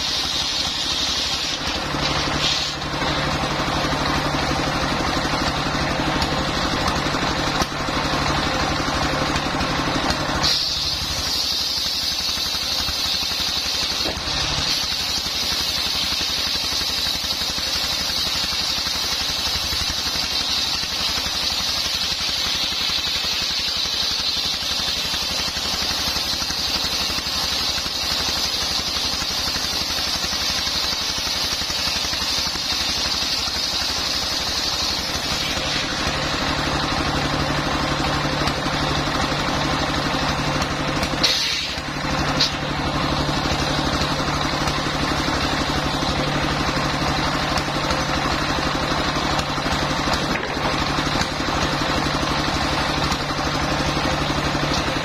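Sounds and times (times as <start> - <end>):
circular saw blade whining: 0.0 - 55.0
diesel engine running: 0.0 - 55.0.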